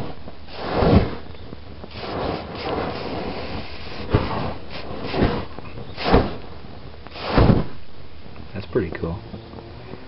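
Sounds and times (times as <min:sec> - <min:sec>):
hissing noise: 0:00.0 - 0:10.0.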